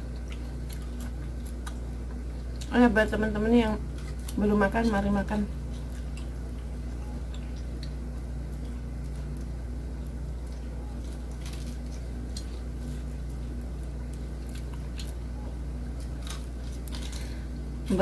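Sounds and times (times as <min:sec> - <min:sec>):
chewing and lip-smacking: 0:00.0 - 0:02.8, 0:03.8 - 0:17.4
steady low hum: 0:00.0 - 0:18.0.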